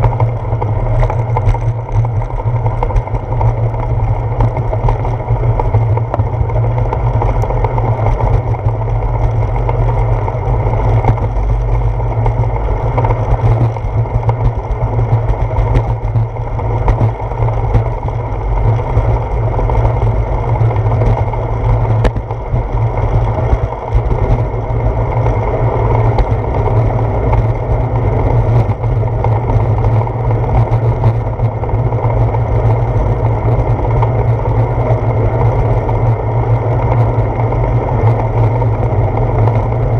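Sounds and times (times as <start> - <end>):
tyre and road vibration: 0.0 - 39.9
wind buffeting microphone: 0.0 - 39.9.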